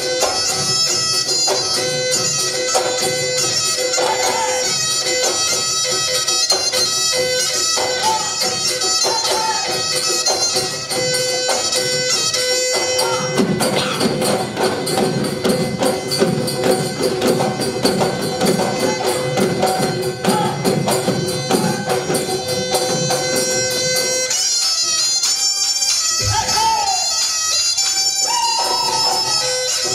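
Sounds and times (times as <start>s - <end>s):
fast dense percussion: 0.0s - 27.4s.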